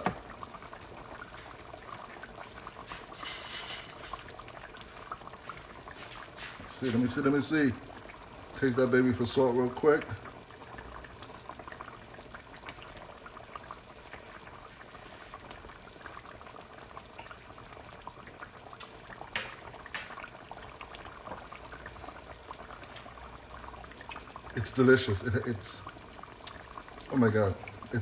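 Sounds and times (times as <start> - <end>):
curry bubbling in a pot: 0.0 - 28.0.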